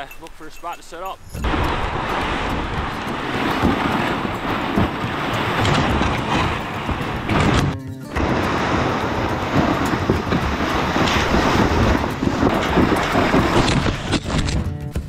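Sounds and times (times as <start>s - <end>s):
sled scraping over snow: 1.4s - 14.7s.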